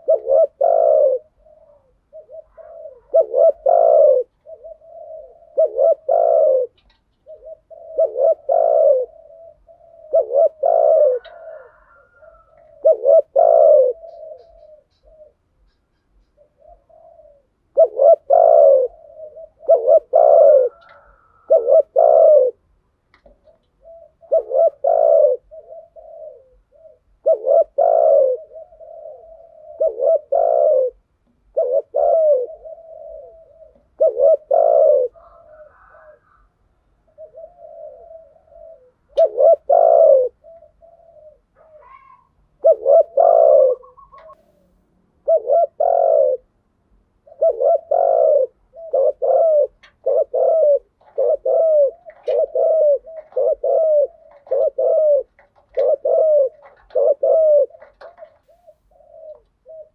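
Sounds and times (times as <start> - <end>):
doves cooing: 0.0 - 15.6, 16.2 - 46.6, 47.2 - 59.9.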